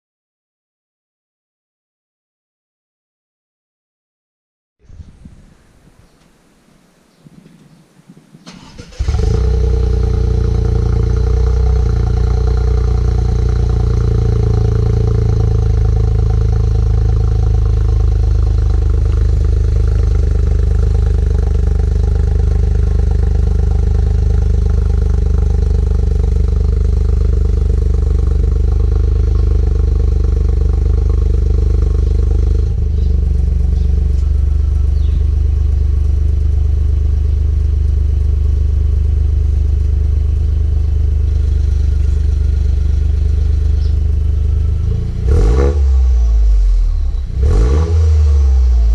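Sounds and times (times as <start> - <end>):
car engine idling: 5.5 - 48.9.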